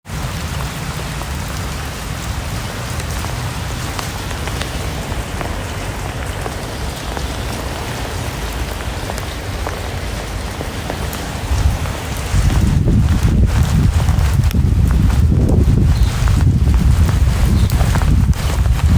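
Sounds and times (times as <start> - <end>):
rain drops ticking: 0.0 - 18.9
low rumble: 0.4 - 18.9.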